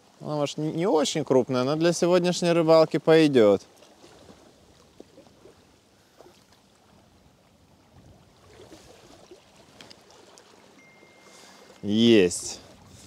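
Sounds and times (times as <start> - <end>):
low river water noise: 0.0 - 13.0.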